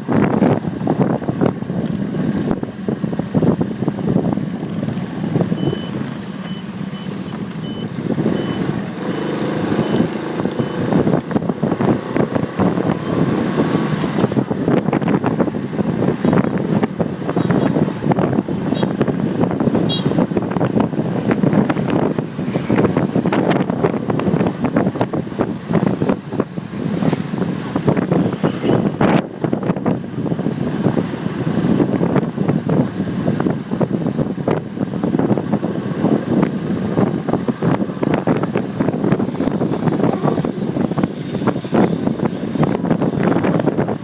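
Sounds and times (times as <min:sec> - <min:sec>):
wind and road noise: 0:00.0 - 0:44.0
motorcycle engine: 0:00.1 - 0:44.0.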